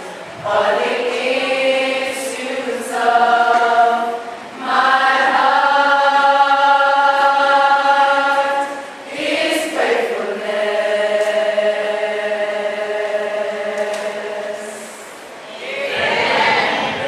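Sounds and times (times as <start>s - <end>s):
choir singing hymn: 0.0s - 17.0s.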